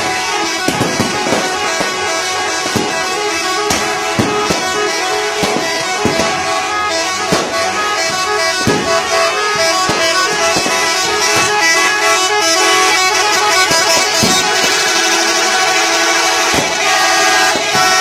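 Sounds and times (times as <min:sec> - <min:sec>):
musical air horn tune: 0:00.0 - 0:18.0.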